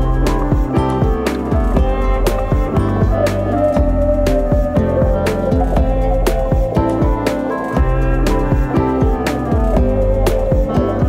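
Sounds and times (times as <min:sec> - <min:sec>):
background music with steady beat: 0:00.0 - 0:11.0
guitar: 0:00.0 - 0:11.0.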